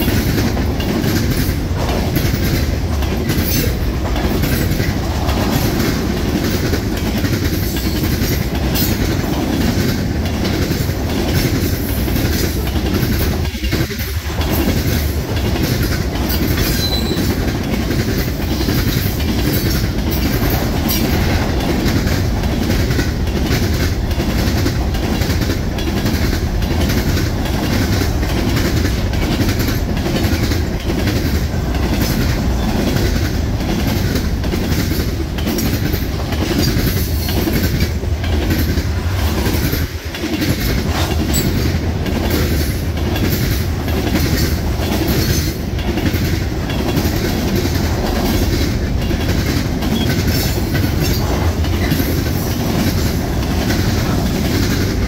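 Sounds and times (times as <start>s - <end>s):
freight train wheels rumbling on rails: 0.0s - 55.0s
rail clicking: 0.0s - 55.0s.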